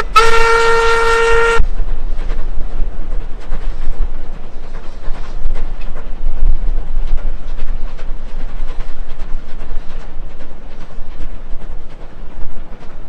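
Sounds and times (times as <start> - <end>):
rail clicks and clatter: 0.0 - 13.0
train deep rumble: 0.0 - 13.0.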